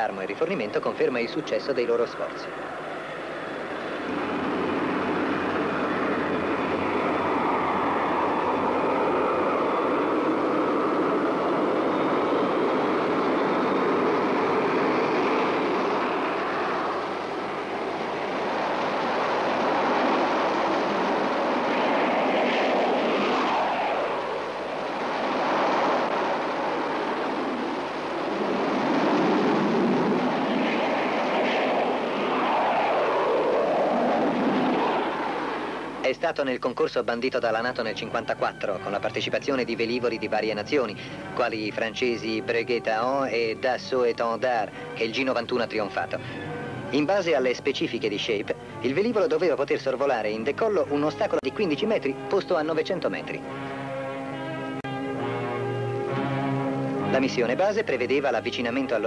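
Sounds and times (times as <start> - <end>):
high jet whine: 0.0 - 59.0
jet engines roaring: 0.0 - 59.0.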